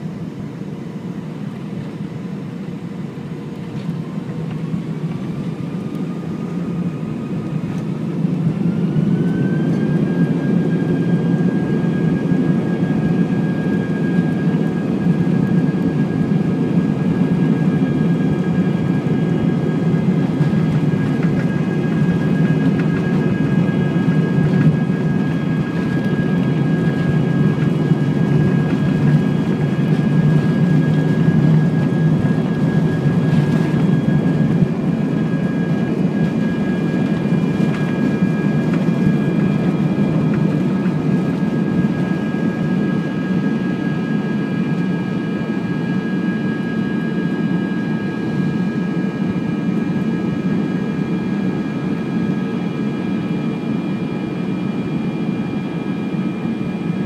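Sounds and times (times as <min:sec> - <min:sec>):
high fan whine: 0:00.0 - 0:57.0
jet engine roar in cabin: 0:00.0 - 0:57.0.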